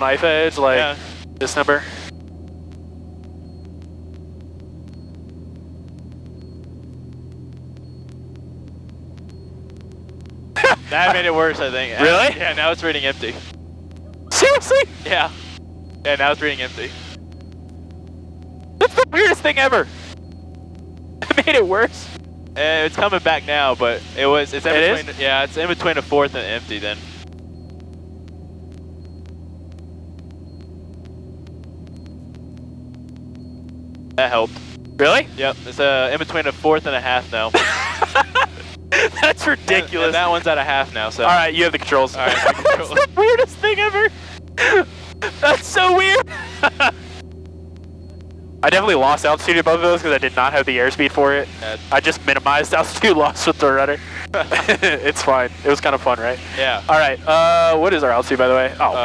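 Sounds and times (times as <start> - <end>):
airplane engine drone: 0.0 - 59.0
faint electrical clicks: 0.0 - 59.0
faint ticking: 0.0 - 59.0.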